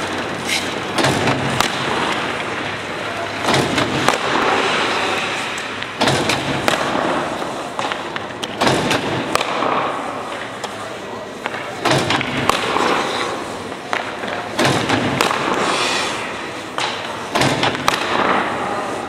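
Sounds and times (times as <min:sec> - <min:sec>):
hockey sticks hitting pucks: 0:00.0 - 0:19.0
pucks striking goalie pads: 0:00.0 - 0:19.0.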